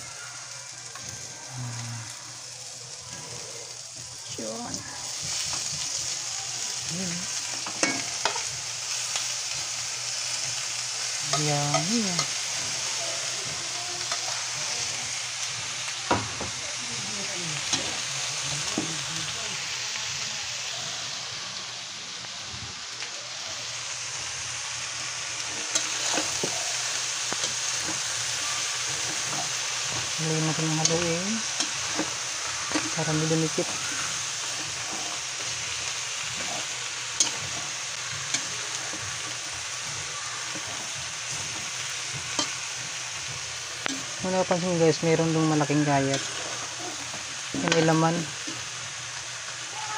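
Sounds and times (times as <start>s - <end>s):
pork sizzling in a wok: 0.0s - 49.9s.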